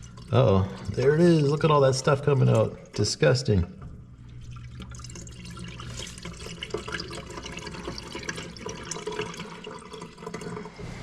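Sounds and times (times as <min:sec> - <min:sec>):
drain pump hum: 0:00.0 - 0:11.0.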